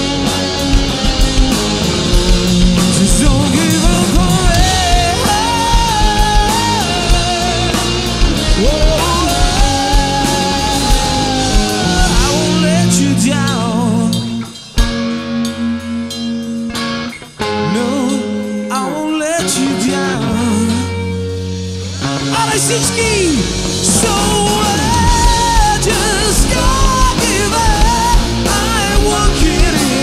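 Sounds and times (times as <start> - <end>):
bass guitar: 0.0 - 30.0
drums: 0.0 - 30.0
electric guitar lead lines: 0.0 - 30.0.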